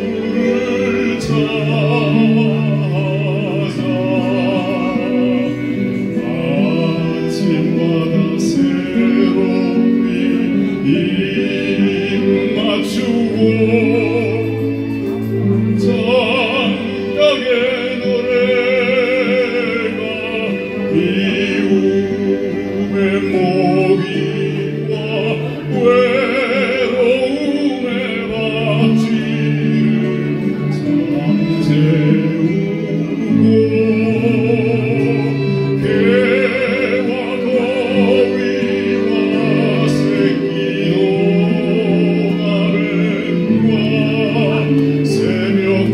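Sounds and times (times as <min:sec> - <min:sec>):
man singing with vibrato: 0:00.0 - 0:45.9.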